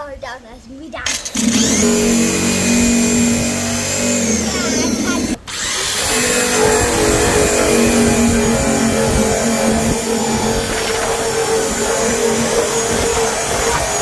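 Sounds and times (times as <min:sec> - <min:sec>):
electric drum sander running: 0:01.1 - 0:14.0.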